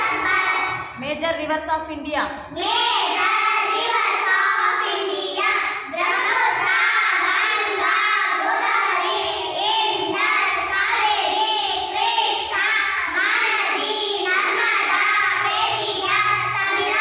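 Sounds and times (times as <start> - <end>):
girls chanting in unison: 0.0 - 1.0, 2.6 - 17.0.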